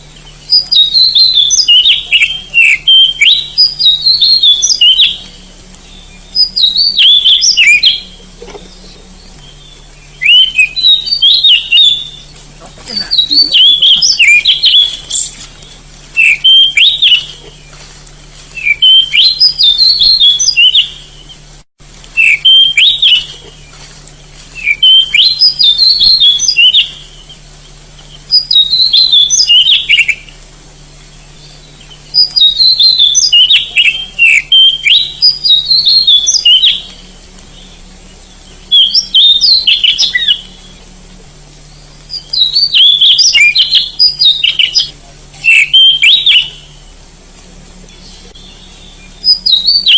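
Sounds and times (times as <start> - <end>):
magpie-robin singing whistled notes: 0.1 - 17.8, 18.5 - 21.4, 22.2 - 23.8, 24.5 - 30.4, 31.2 - 40.8, 41.7 - 47.0, 47.9 - 49.9.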